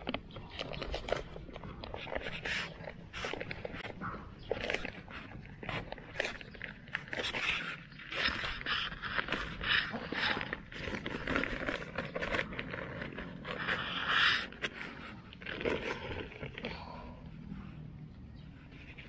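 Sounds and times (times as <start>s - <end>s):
scraping and rustling in soil: 0.0s - 19.0s.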